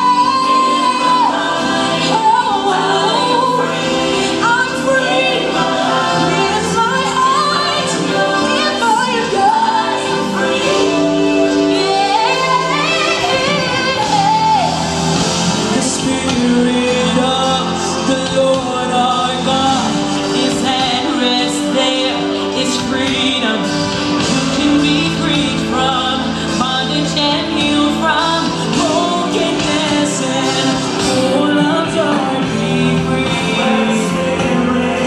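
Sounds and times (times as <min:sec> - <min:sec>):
gospel singing: 0:00.0 - 0:35.0.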